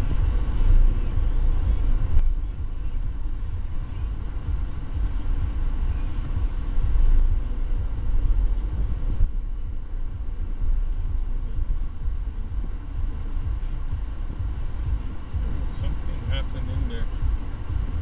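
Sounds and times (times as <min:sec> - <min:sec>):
car engine rumble: 0:00.0 - 0:18.0
road noise inside car: 0:00.0 - 0:18.0.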